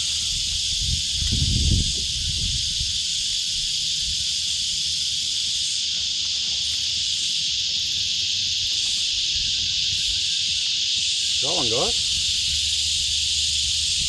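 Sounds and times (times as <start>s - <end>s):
cicadas chorus: 0.0s - 14.0s.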